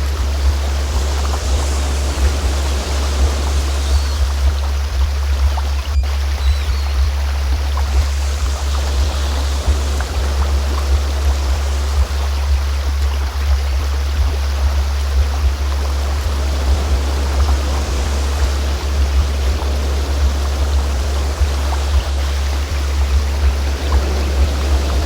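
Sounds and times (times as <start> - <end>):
deep steady synthesized tone: 0.0 - 25.0
stream flowing: 0.0 - 25.0.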